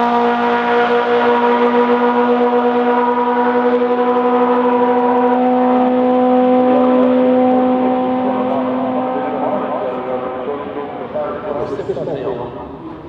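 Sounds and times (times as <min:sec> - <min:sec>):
racing car engine running: 0:00.0 - 0:13.0.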